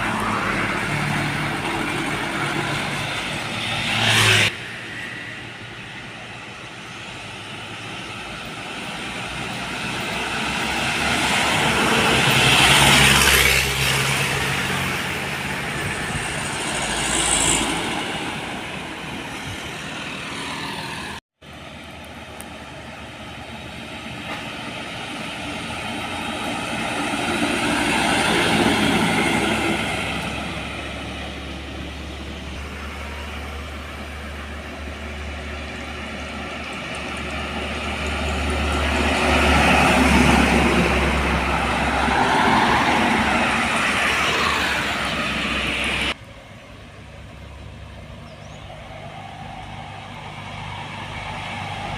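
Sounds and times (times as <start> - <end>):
heavy trucks driving past: 0.0 - 51.9.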